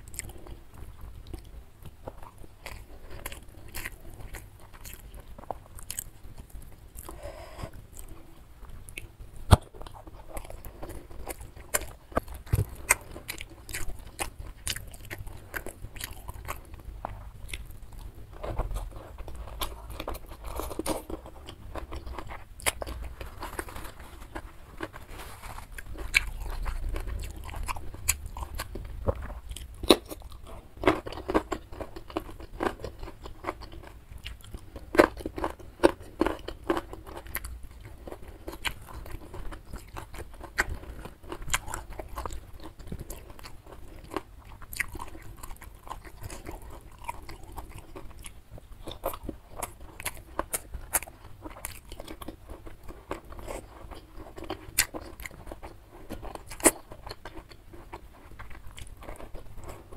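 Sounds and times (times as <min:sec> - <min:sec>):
chewing: 0:00.0 - 0:59.9
crunchy bites: 0:08.9 - 0:59.9.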